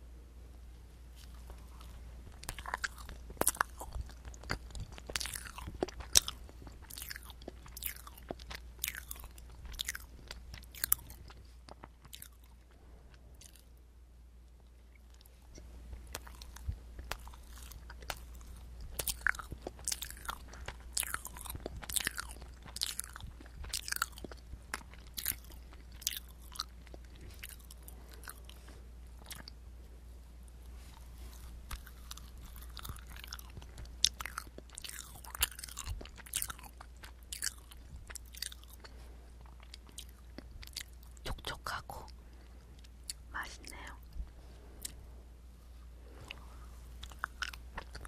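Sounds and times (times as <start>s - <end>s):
wet chewing clicks and smacks: 1.2s - 13.8s, 14.5s - 29.6s, 31.6s - 44.1s, 47.0s - 48.0s.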